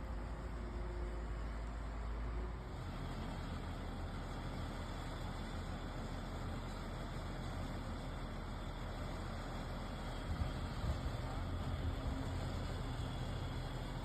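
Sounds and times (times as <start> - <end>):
engine running with hiss: 0.0 - 14.0.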